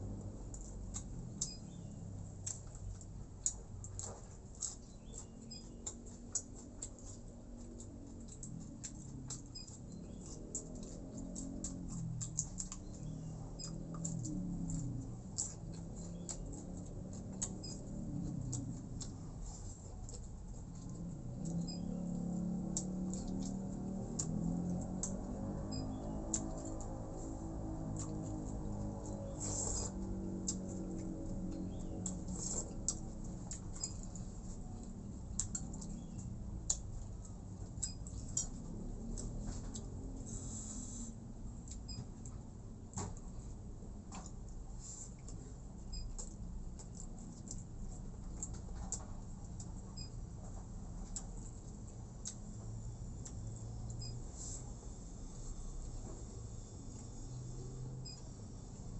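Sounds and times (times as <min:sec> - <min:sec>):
wet chewing: 0:00.0 - 0:54.9.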